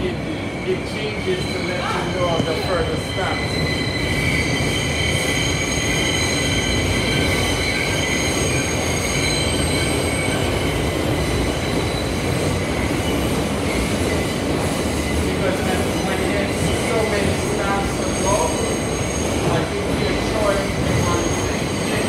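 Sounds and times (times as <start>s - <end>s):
subway wheels rumbling on track: 0.0s - 22.0s.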